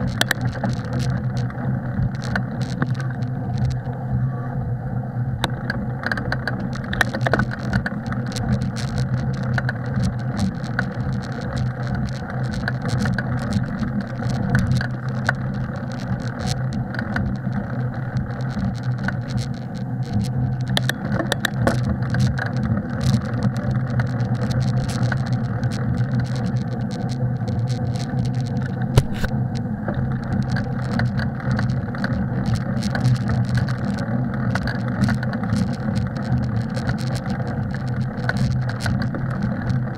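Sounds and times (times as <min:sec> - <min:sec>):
small clicks and rattles: 0:00.0 - 0:04.0, 0:05.4 - 0:39.9
bicycle rumbling on snowy trail: 0:00.0 - 0:39.9.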